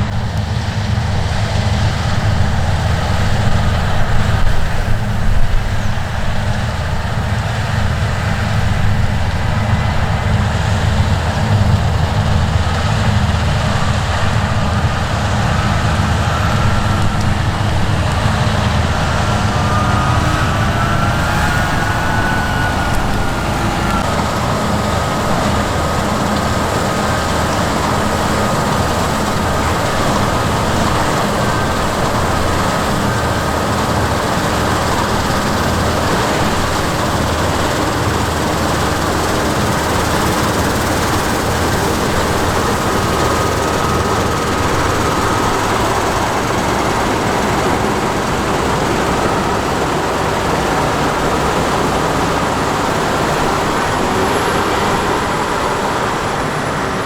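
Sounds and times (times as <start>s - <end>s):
diesel farm machinery running: 0.0s - 57.0s.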